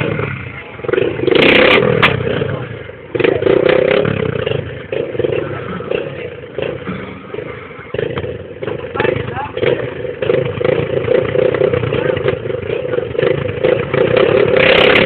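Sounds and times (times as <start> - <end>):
motorcycle engines circling: 0.0 - 15.0.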